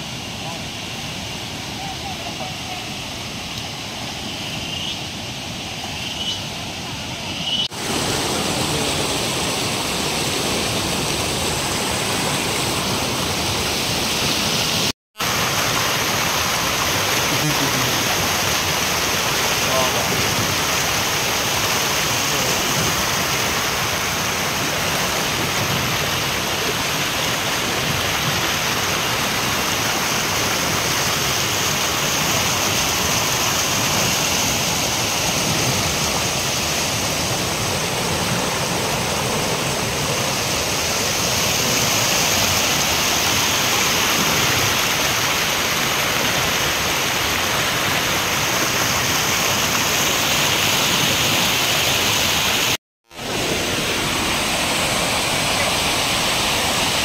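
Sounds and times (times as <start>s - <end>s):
waterfall rushing over rocks: 0.0s - 57.0s.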